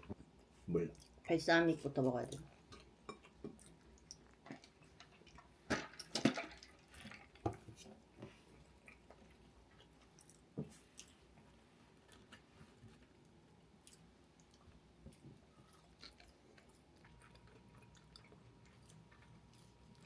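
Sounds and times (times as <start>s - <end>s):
chewing: 2.3s - 20.0s.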